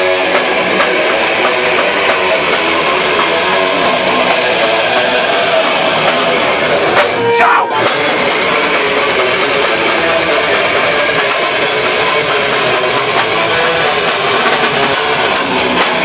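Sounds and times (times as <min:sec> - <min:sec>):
distorted electric guitars: 0:00.0 - 0:16.0
drums and cymbals: 0:00.0 - 0:16.0.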